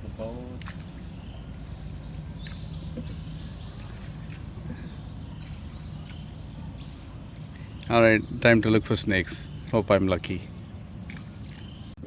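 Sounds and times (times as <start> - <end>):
bird chirping: 0.0 - 12.0
steady low hum: 0.0 - 12.0.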